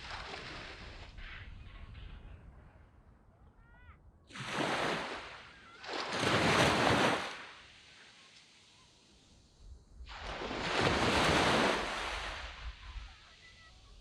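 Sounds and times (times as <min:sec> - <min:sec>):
waves breaking on beach: 0:00.0 - 0:01.6, 0:04.3 - 0:14.0.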